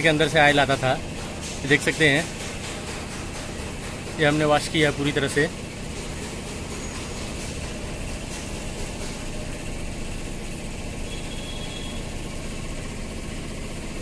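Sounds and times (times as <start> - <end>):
mechanical hum with hiss: 0.0 - 14.0.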